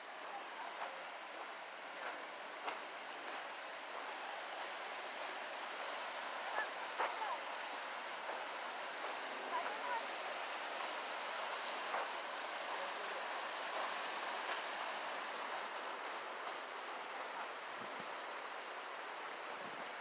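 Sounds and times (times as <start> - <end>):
river flowing over rocks: 0.0 - 20.0.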